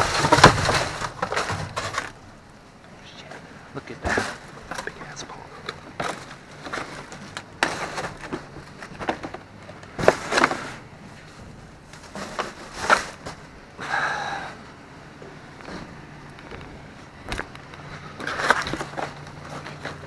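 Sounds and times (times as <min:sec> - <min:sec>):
rummaging through trash: 0:00.0 - 0:02.5, 0:03.3 - 0:14.7, 0:15.3 - 0:20.0.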